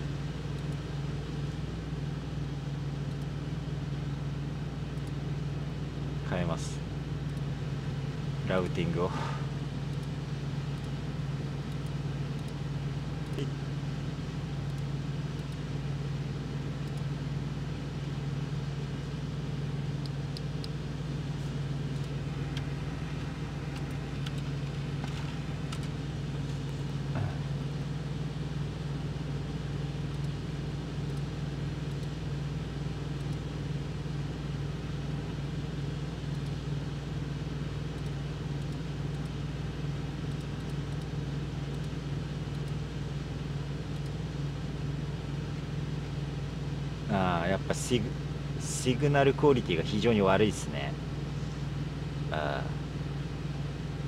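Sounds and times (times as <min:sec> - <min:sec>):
truck engine idling hum: 0:00.0 - 0:54.0.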